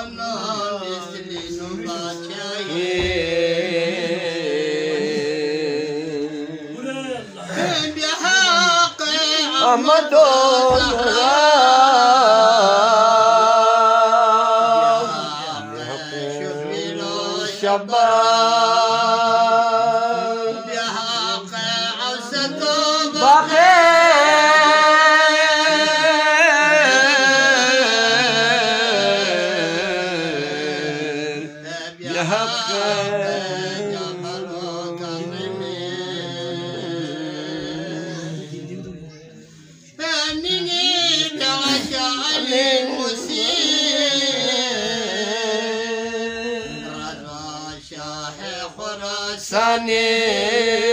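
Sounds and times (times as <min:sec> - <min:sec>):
man singing devotional song: 0:00.0 - 0:50.9.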